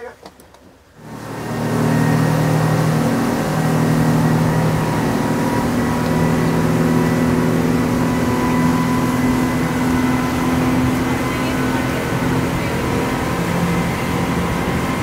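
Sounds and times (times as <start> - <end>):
rushing water: 0.0 - 15.0
speedboat engines running: 0.0 - 15.0
wind: 0.0 - 15.0.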